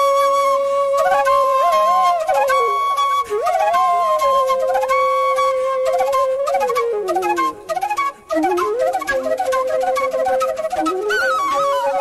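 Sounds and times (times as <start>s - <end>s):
flute playing slow melody: 0.0s - 12.0s.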